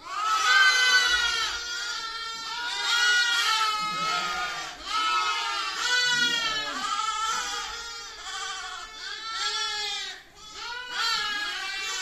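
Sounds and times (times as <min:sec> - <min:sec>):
lambs bleating: 0:00.1 - 0:12.0.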